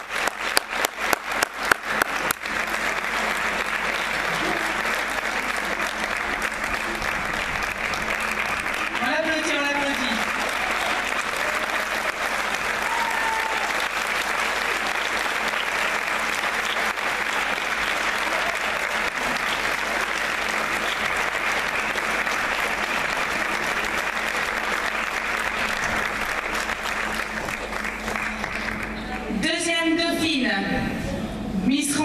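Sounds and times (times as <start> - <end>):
audience applauding: 0.0 - 29.4.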